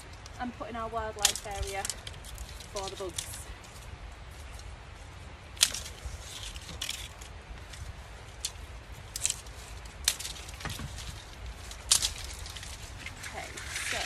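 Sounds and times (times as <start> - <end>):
dry stalks snapping: 0.0 - 4.7, 5.4 - 14.0
rustling of stalks: 0.0 - 14.0.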